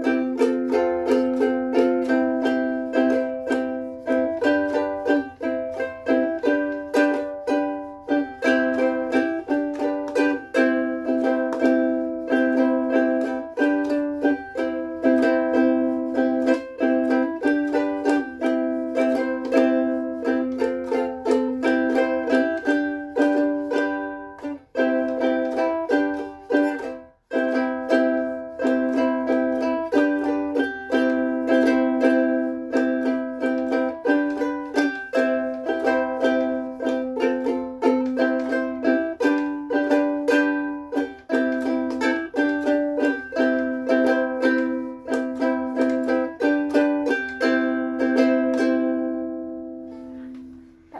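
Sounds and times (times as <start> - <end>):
ukulele strumming chords: 0.0 - 50.9.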